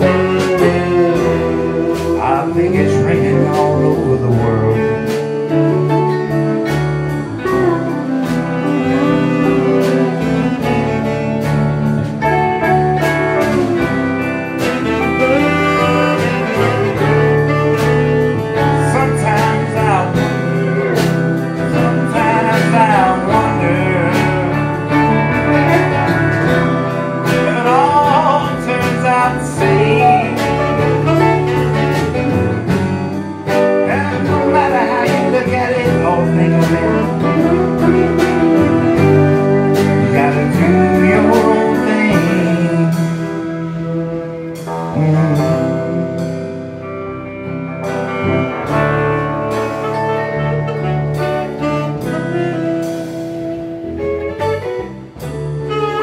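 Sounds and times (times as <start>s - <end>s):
band playing country-soul ballad: 0.0s - 56.0s
steel guitar sliding notes: 0.0s - 56.0s.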